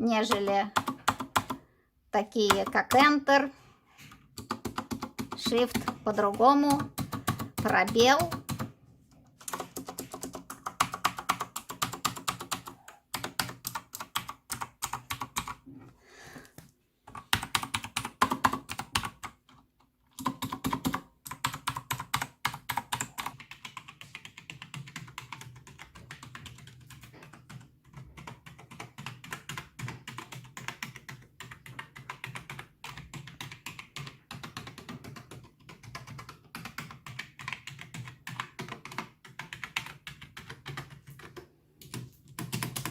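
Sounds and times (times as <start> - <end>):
computer keyboard typing: 0.0 - 1.7, 2.3 - 3.2, 4.1 - 15.6, 17.1 - 42.9.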